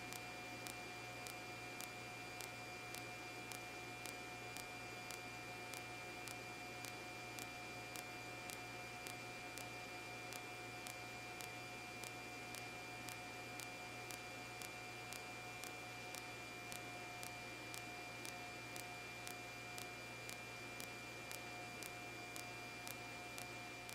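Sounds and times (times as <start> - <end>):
radio electrical hum and hiss: 0.0 - 23.9
light ticking: 0.1 - 9.7, 10.3 - 23.9.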